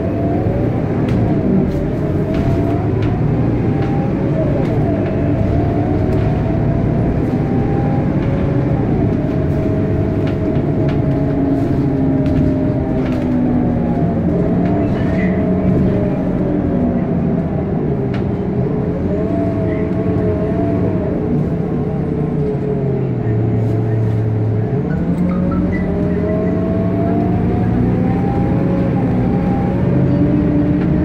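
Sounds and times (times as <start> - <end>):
engine and road rumble: 0.0 - 31.0
vehicle whine changing pitch: 0.0 - 31.0.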